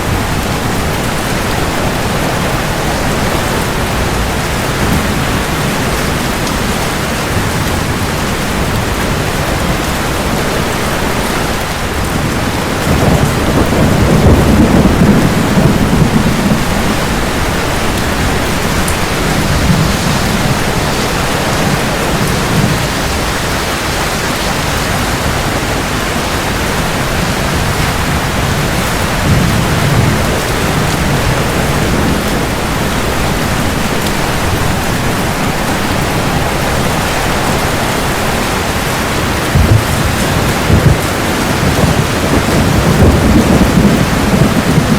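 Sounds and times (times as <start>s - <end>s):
heavy rain: 0.0s - 44.9s
rolling thunder: 0.0s - 44.9s.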